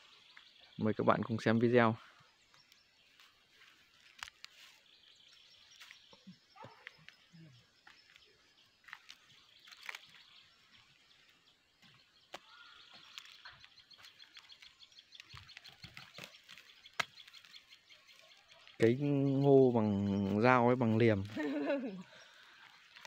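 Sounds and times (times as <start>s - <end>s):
faint high chirping: 0.0s - 23.0s.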